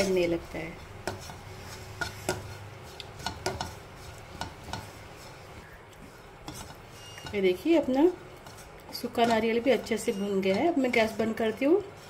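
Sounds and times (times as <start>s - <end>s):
spatula tapping pan: 0.0s - 5.6s, 6.4s - 12.0s
spatula scraping coconut in pan: 0.0s - 12.0s.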